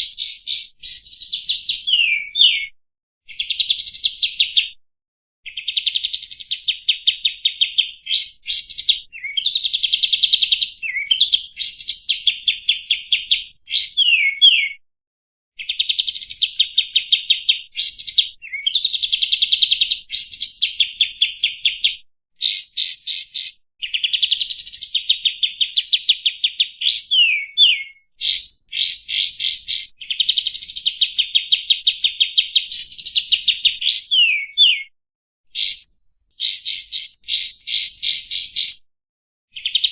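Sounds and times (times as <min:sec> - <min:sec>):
songbird trilling and whistling: 0:00.0 - 0:04.8, 0:05.5 - 0:14.8, 0:15.6 - 0:34.9, 0:35.5 - 0:38.8, 0:39.5 - 0:39.9.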